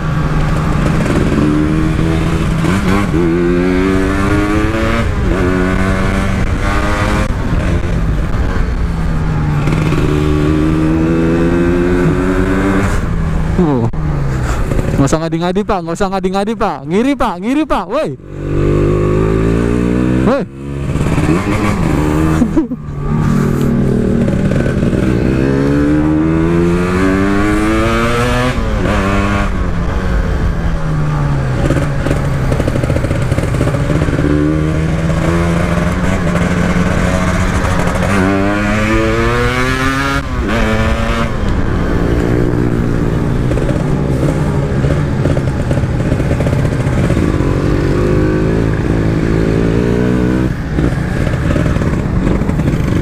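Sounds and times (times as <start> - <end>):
two-stroke motorcycle engine revving: 0.0 - 13.9, 17.9 - 53.0.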